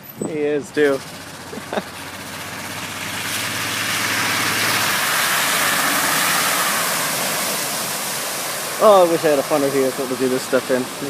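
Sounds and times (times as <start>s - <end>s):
car engine running: 0.0s - 11.0s
tyres splashing through floodwater: 0.0s - 11.0s.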